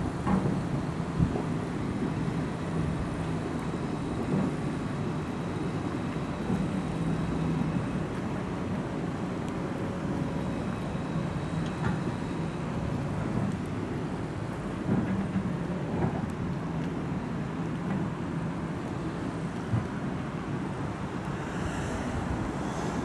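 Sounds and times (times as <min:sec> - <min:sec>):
city traffic noise: 0:00.0 - 0:23.0
train rumbling on viaduct: 0:00.0 - 0:23.0.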